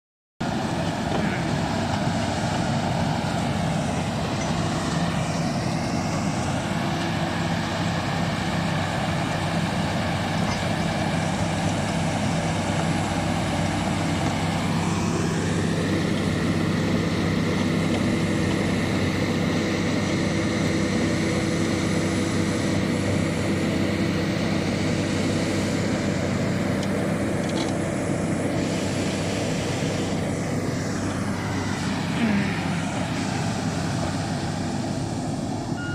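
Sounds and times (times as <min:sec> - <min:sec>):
bulldozer diesel engine running: 0:00.4 - 0:35.9
high machine whine: 0:00.4 - 0:35.9.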